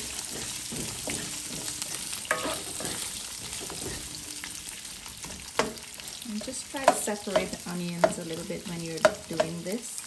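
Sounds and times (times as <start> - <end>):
spatula scraping and tapping pan: 0.0 - 9.6
vegetables sizzling in hot oil: 0.0 - 10.0.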